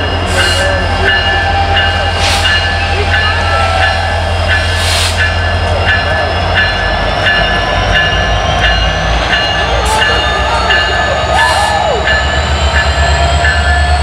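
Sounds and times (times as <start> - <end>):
bell ringing: 0.0 - 14.0
locomotive engine rumble: 0.0 - 14.0.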